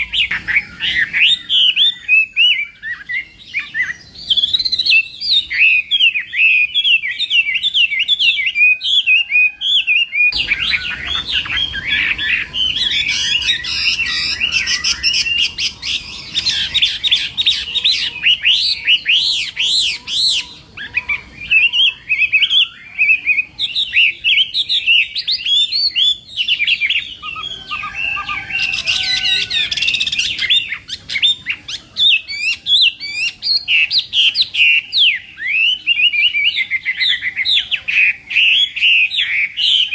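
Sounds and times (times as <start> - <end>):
bird singing whistled notes: 0.0 - 39.9
low background noise: 0.0 - 39.9.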